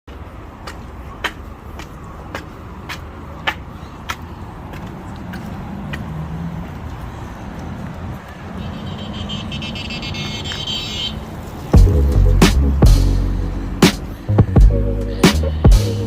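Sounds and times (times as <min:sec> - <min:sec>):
road traffic rumbling: 0:00.1 - 0:16.0.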